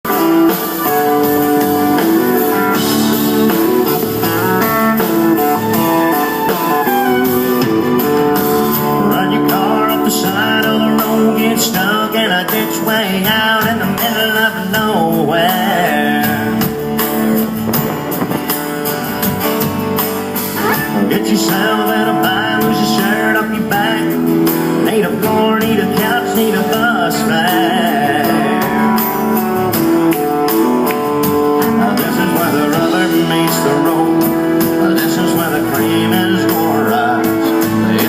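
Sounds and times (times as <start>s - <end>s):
country band playing live: 0.0s - 38.0s
guitar playing: 0.0s - 38.0s
person singing: 0.1s - 16.8s, 20.6s - 38.0s.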